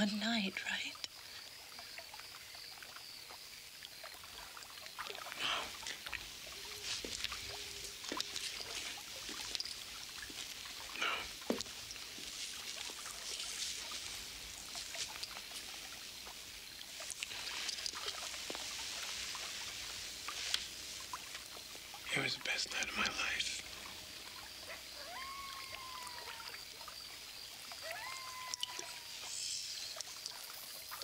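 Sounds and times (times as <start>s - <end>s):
pool water lapping and trickling: 0.0s - 31.0s
small water splashes: 0.9s - 31.0s.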